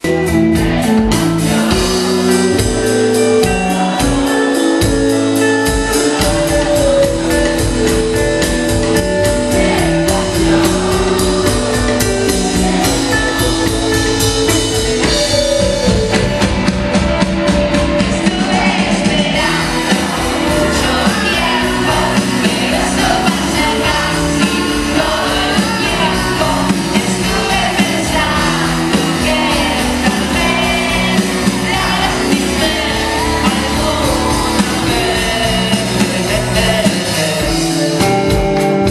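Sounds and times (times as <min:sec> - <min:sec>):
drum kit: 0:00.0 - 0:38.9
person singing: 0:00.0 - 0:38.9
rock band playing: 0:00.0 - 0:38.9.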